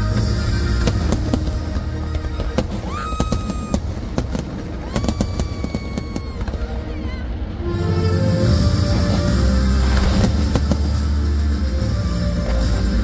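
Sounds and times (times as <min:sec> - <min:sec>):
fireworks bangs and crackles: 0:00.0 - 0:07.4, 0:08.4 - 0:13.0
low rumble: 0:00.0 - 0:13.0.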